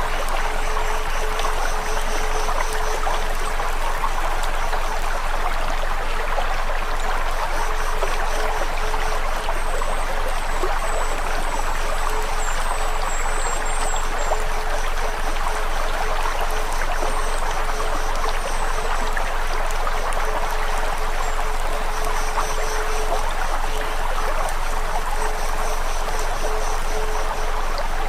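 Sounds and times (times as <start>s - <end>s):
faint steady tone: 0.0s - 28.0s
running water: 0.0s - 28.0s.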